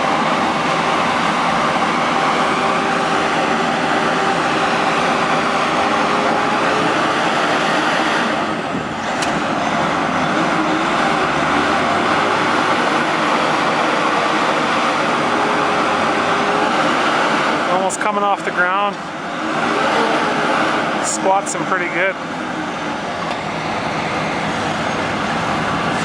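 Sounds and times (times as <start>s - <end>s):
truck diesel engine running hard: 0.0s - 26.0s.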